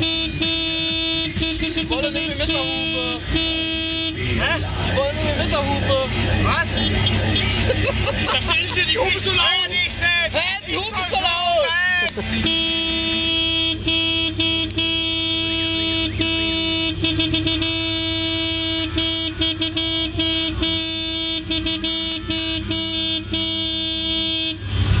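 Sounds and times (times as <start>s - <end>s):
car horn steady note: 0.0s - 25.0s.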